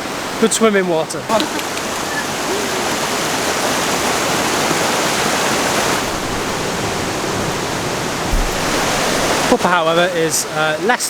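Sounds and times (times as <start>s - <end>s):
waterfall pouring: 1.2s - 10.8s.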